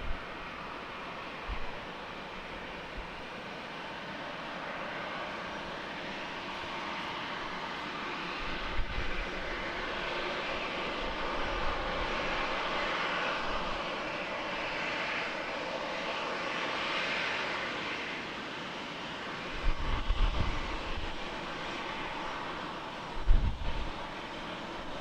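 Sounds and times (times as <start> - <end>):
jet airliner engines rushing: 0.0 - 25.0.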